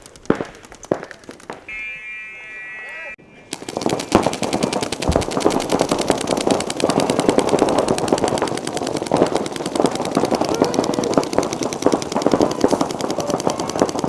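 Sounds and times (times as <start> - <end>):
paintball markers firing: 0.0 - 1.7, 3.5 - 14.0.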